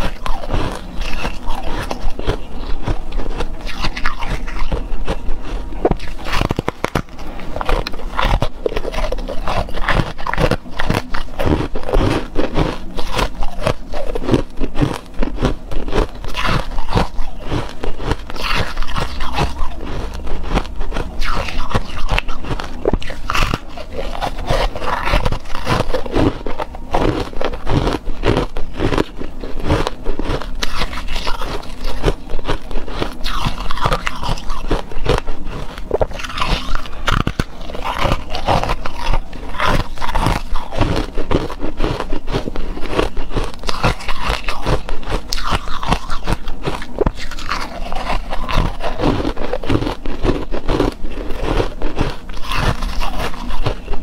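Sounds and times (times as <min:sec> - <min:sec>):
ice crunching between teeth: 0:00.0 - 0:54.0.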